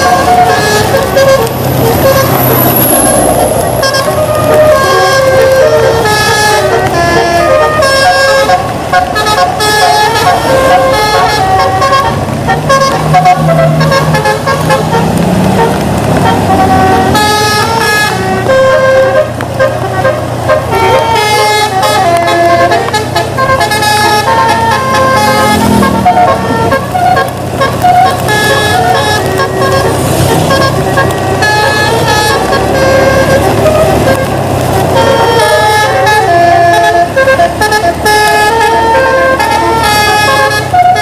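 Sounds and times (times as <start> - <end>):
bus engine running: 0.0 - 41.0
musical air horn tune: 0.0 - 41.0.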